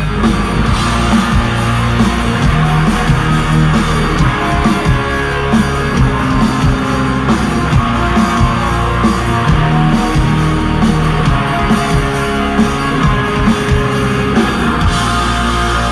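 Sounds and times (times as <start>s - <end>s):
electric guitars: 0.0s - 15.9s
steady drum beat: 0.0s - 15.9s.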